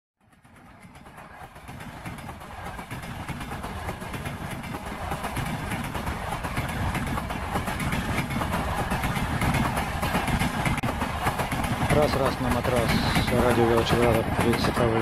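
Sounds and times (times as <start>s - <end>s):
train rumbling: 0.2s - 15.0s
train wheels clattering: 0.2s - 15.0s.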